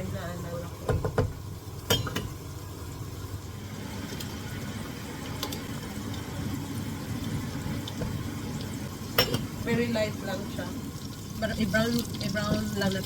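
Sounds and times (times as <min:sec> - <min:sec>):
pot boiling and bubbling: 0:00.0 - 0:13.0.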